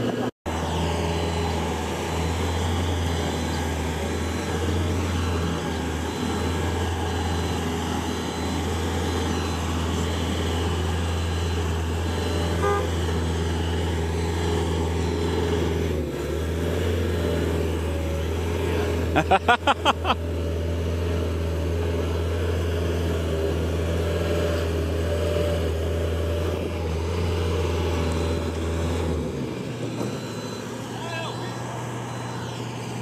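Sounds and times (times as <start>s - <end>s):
boom lift engine running: 0.0s - 33.0s.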